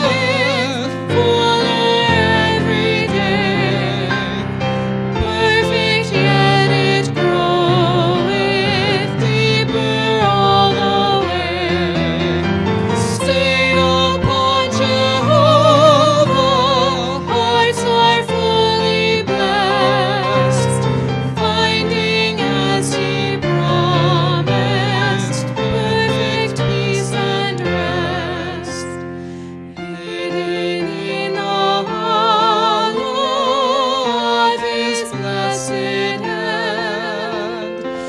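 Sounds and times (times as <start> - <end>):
hymn sung with vibrato: 0.0 - 12.1, 13.0 - 28.9, 29.9 - 38.0
sustained instrumental accompaniment: 0.0 - 38.0.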